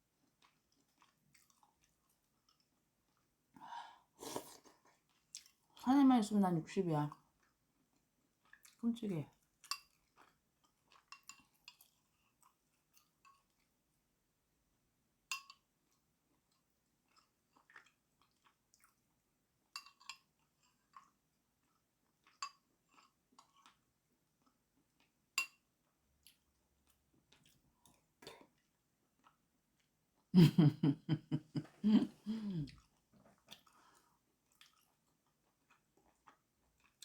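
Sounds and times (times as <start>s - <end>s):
faint chewing: 0.0s - 5.8s, 7.1s - 13.8s, 15.5s - 30.3s, 31.3s - 37.0s.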